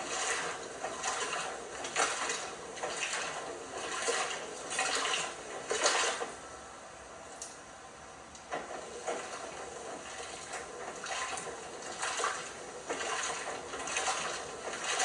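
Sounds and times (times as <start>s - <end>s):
washing machine water sloshing: 0.0s - 6.5s, 8.5s - 15.0s.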